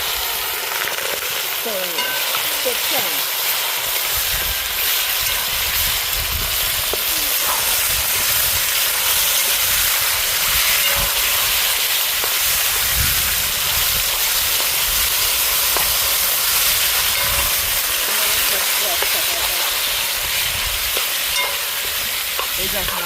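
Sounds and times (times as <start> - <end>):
oil sizzling in a pot: 0.0 - 23.0.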